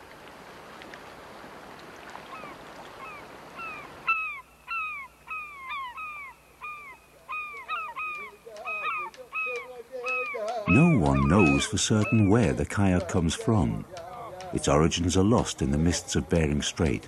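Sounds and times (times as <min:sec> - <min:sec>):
seabirds calling: 0:02.1 - 0:17.0.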